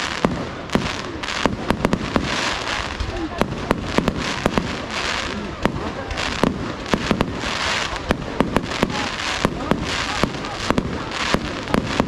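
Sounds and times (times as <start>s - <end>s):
crackling hiss: 0.0s - 12.0s
firework bangs: 0.0s - 12.0s.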